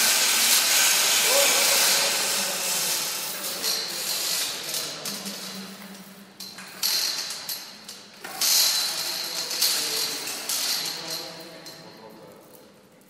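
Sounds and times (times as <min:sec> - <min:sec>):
heavy chains rattling: 0:00.0 - 0:05.7, 0:06.4 - 0:13.0.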